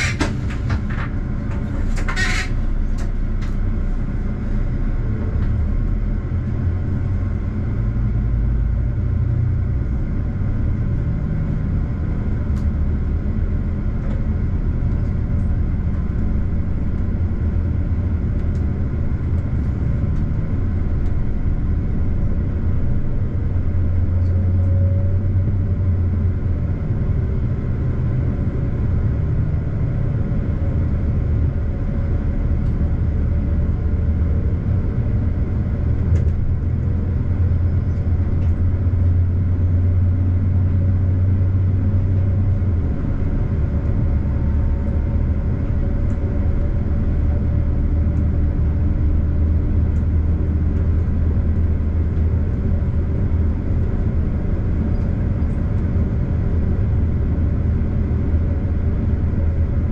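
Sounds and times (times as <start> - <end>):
low train engine drone: 0.0 - 59.9
wheels rumbling on rails: 0.0 - 59.9.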